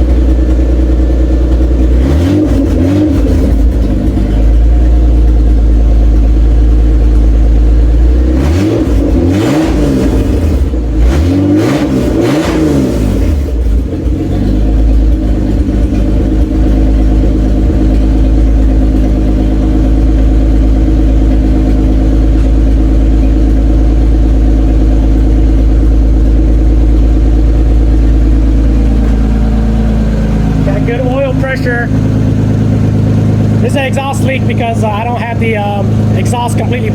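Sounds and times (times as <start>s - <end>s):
car engine revving and idling: 0.0s - 36.9s.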